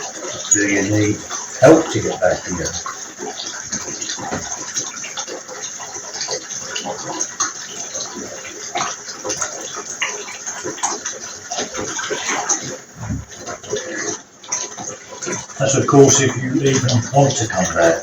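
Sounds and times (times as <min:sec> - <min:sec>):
small splashes and bubbles: 0:00.0 - 0:18.0
water running into bathtub: 0:00.0 - 0:18.0.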